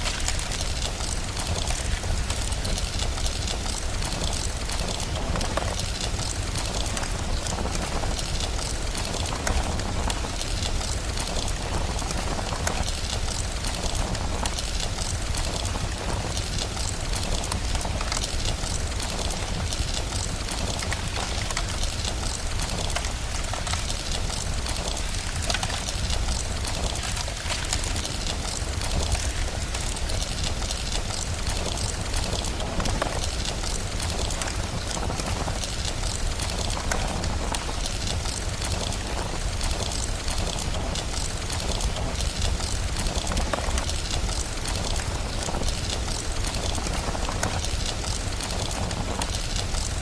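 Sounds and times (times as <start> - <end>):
steady rain: 0.0 - 50.0
wood fire crackling: 0.0 - 50.0.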